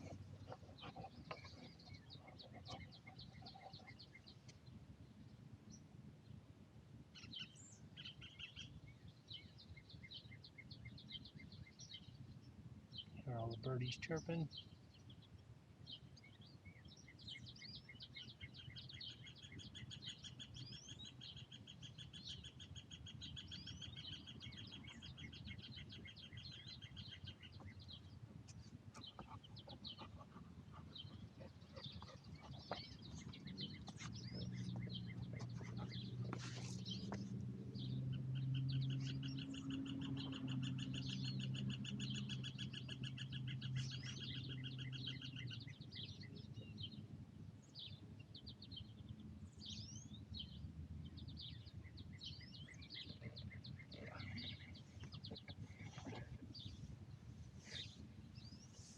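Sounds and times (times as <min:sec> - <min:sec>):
wild birds chirping: 0:00.0 - 0:58.9.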